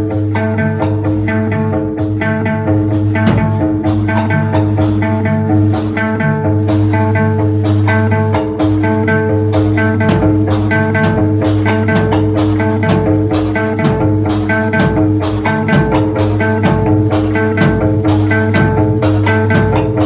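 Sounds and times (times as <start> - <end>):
drum kit with cymbal hits: 0.0 - 20.0
electric guitar: 0.0 - 20.0
steady held notes: 0.0 - 20.0.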